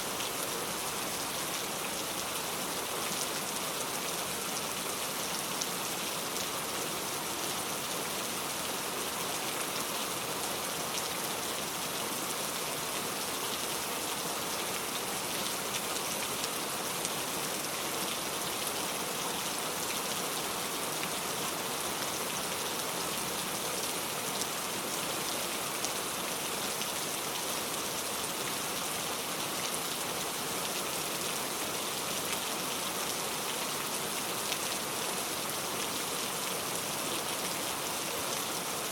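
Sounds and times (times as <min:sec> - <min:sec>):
heavy rain on a road: 0:00.0 - 0:38.9.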